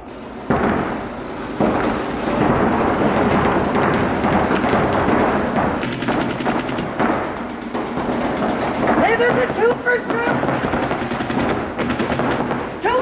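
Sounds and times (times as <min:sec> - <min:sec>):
paintball markers firing: 0:01.6 - 0:13.0.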